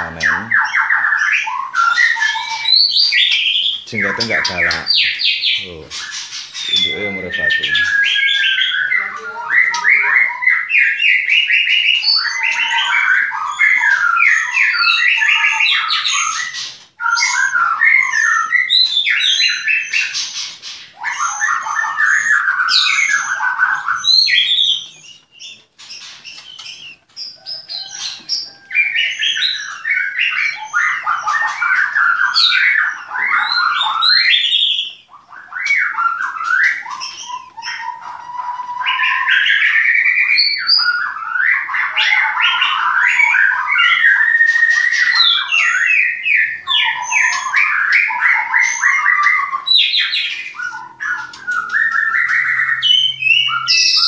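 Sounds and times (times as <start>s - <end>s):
bird singing whistled phrases: 0.0s - 25.6s, 26.3s - 54.0s.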